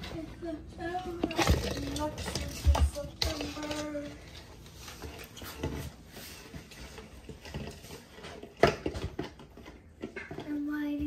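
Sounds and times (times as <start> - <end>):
puppy paws on tile floor: 0.0 - 11.0.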